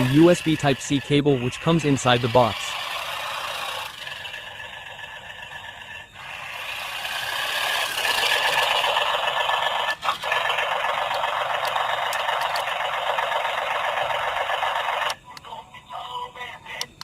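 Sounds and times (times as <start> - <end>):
toy tractor engine sound: 0.0 - 17.0.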